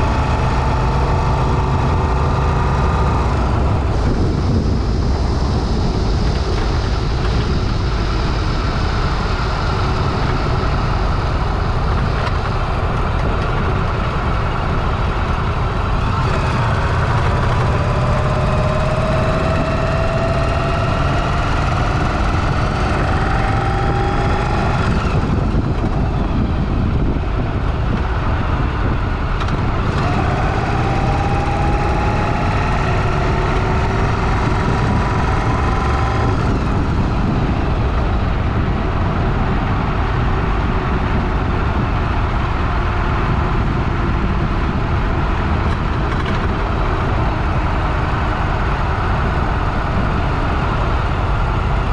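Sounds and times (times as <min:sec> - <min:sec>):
motorcycle engine accelerating: 0:00.0 - 0:51.9
road noise: 0:00.0 - 0:51.9
wind noise: 0:00.0 - 0:51.9.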